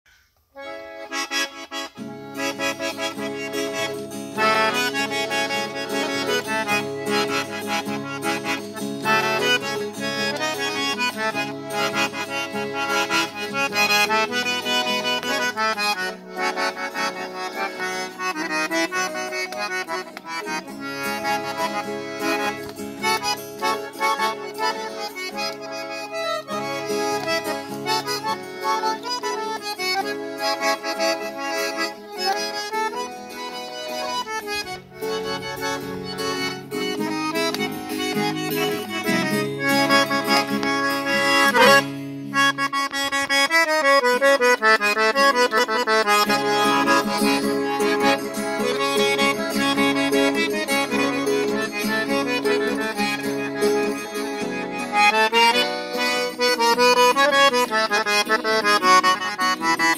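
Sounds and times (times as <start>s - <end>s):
accordion folk melody: 0.1s - 59.9s
acoustic guitar: 0.6s - 59.9s.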